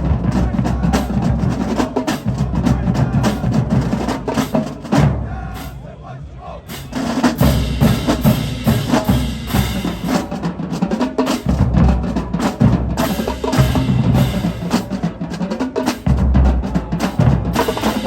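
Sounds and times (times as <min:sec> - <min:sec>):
marching drumline playing: 0:00.0 - 0:18.0.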